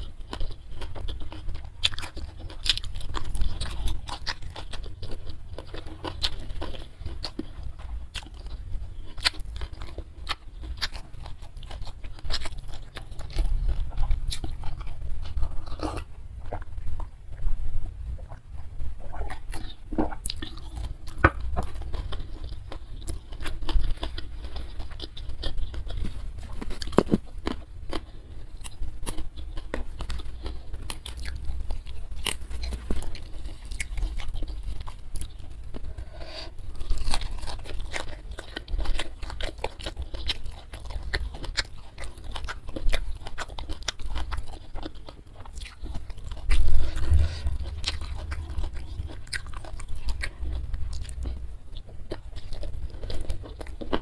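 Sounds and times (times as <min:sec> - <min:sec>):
person biting and chewing food: 0:00.0 - 0:54.0.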